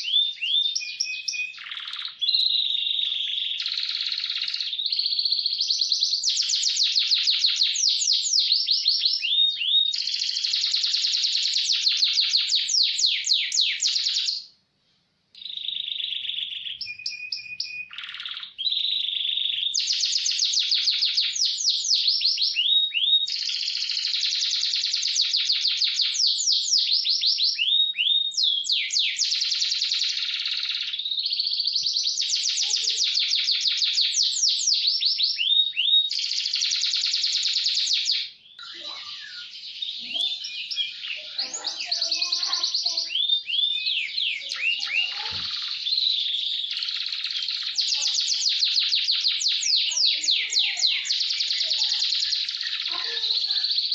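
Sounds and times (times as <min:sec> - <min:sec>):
canary singing trills and chirps: 0:00.0 - 0:14.6, 0:15.3 - 0:53.9.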